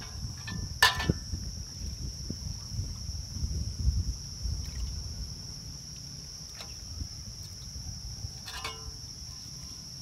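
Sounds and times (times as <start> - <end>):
insects droning: 0.0 - 10.0
wind rumble on microphone: 0.0 - 10.0.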